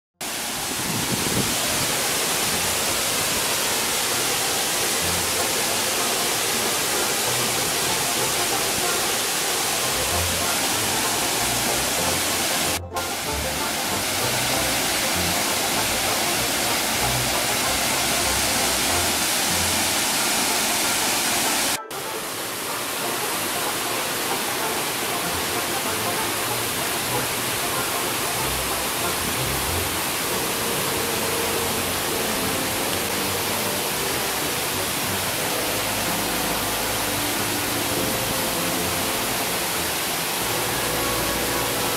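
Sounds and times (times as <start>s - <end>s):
waterfall and stream rushing: 0.2s - 41.9s.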